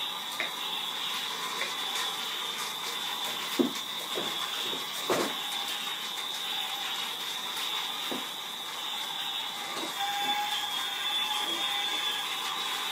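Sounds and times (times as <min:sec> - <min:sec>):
toy train motor whirring: 0:00.0 - 0:12.9.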